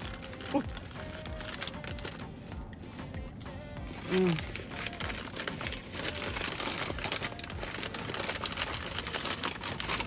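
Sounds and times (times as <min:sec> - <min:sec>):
paper crinkling and rustling: 0:00.0 - 0:02.2, 0:04.0 - 0:10.0.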